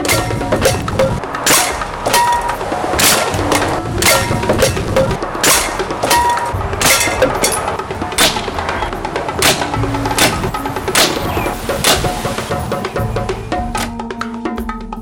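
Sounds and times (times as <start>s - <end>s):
music with sharp percussive beat: 0.0s - 15.0s.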